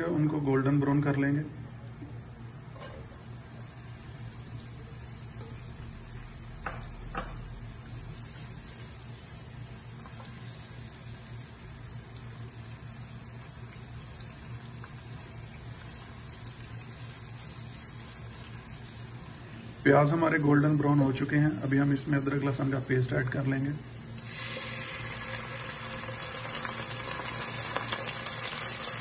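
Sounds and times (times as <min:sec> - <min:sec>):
onions sizzling in hot oil: 0:03.0 - 0:29.0.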